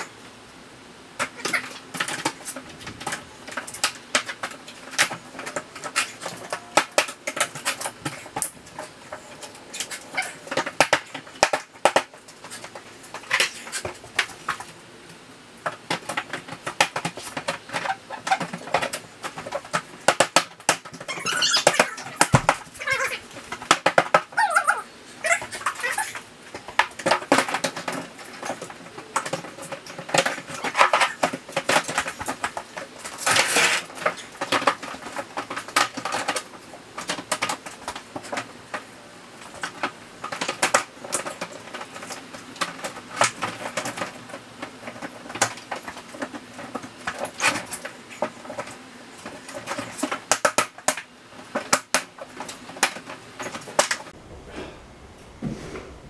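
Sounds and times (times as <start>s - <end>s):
plastic panels knocking and clicking: 1.2s - 14.8s, 15.6s - 24.4s, 25.3s - 54.1s.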